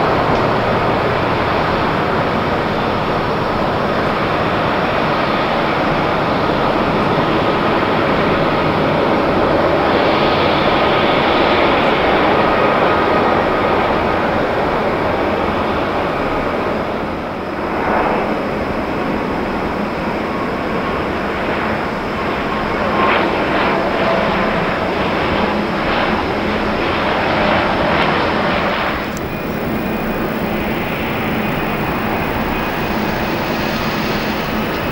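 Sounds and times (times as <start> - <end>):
airliner engines roaring: 0.0 - 34.9.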